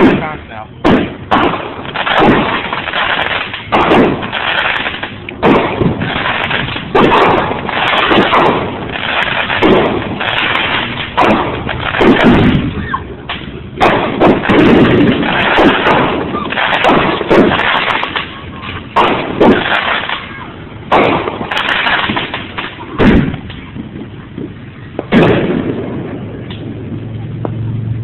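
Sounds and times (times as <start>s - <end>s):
firework cake bangs: 0.0s - 26.8s.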